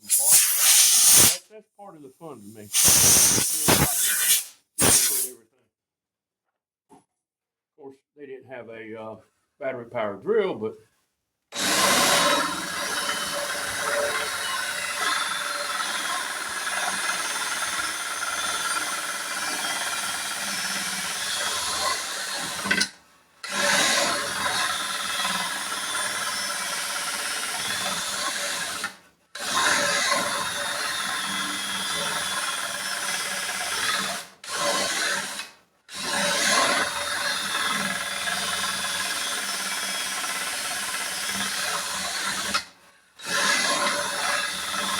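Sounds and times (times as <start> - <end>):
drill boring a hole: 0.0 - 1.4, 2.7 - 5.3, 11.6 - 44.9.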